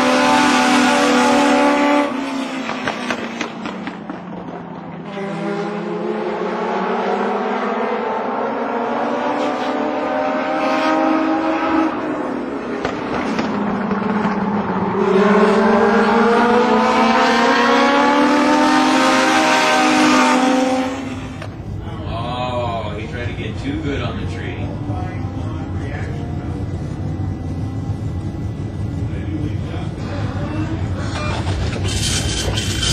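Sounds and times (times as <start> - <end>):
race car engines at high revs: 0.0 - 32.9.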